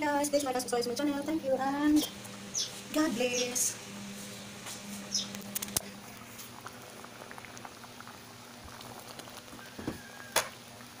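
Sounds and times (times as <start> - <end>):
soup boiling and bubbling: 0.0 - 11.0.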